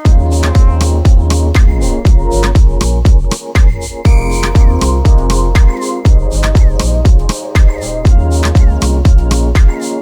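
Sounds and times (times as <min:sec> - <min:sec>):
house dance music: 0:00.0 - 0:10.0.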